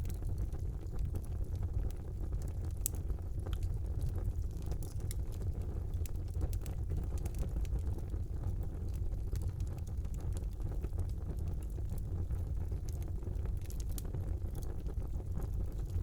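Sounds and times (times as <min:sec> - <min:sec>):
fire burning in a fireplace: 0:00.0 - 0:16.0.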